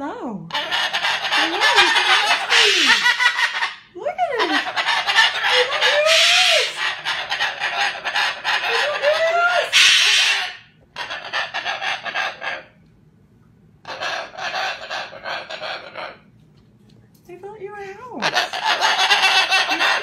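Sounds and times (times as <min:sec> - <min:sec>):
cockatoo screeching: 0:00.5 - 0:12.7, 0:13.8 - 0:16.2, 0:18.2 - 0:20.0.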